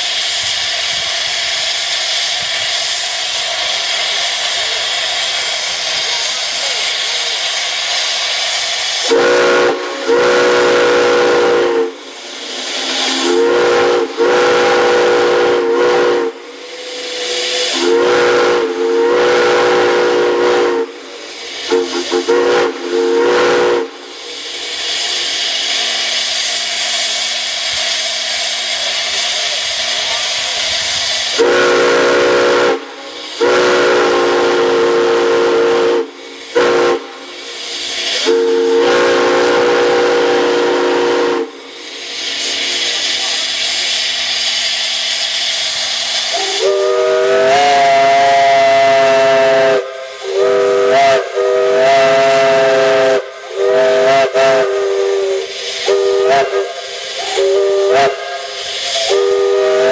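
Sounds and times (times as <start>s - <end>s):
steam hissing: 0.0s - 59.9s
steam whistle blasts: 6.8s - 29.9s, 31.2s - 43.2s, 46.1s - 59.9s.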